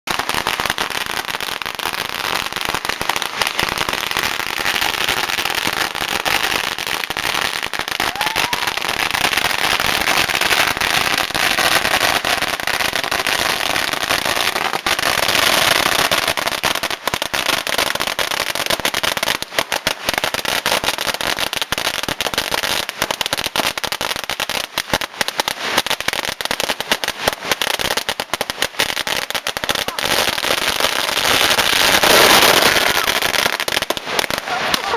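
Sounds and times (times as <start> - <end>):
firecrackers banging: 0.1 - 23.2, 23.8 - 34.9.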